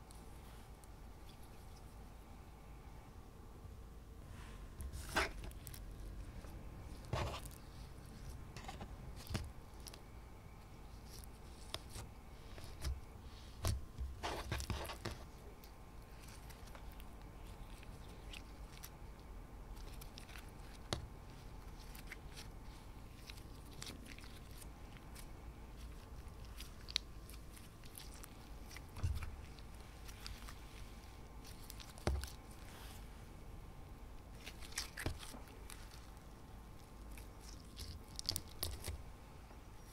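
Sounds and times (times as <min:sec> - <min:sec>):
slime squelching and crackling: 0:04.8 - 0:33.1, 0:34.2 - 0:39.1.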